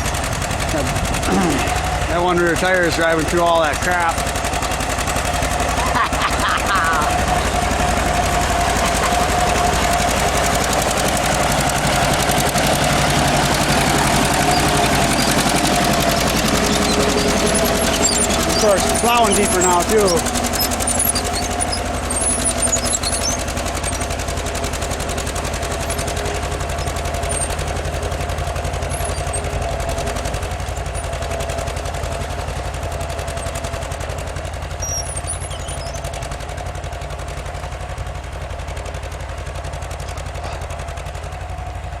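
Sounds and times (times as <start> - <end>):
tractor engine under heavy load: 0.0 - 42.0.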